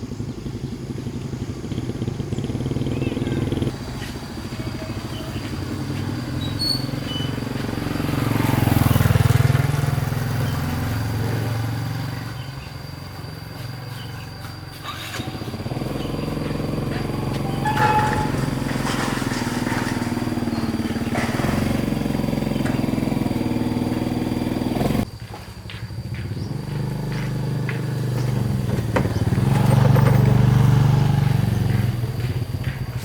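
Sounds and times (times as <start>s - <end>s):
engine running: 0.0s - 33.0s.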